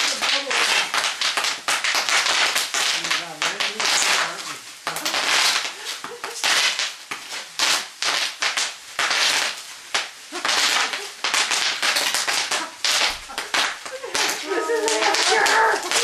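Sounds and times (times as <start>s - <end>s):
bubble wrap popping: 0.0s - 16.0s.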